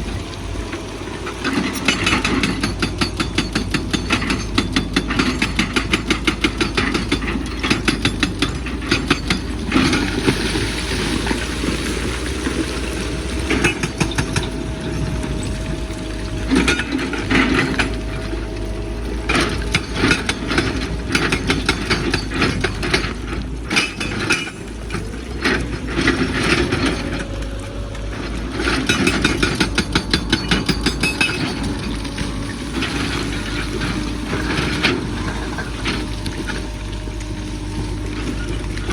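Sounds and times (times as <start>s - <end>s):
excavator diesel engine droning: 0.0s - 38.9s.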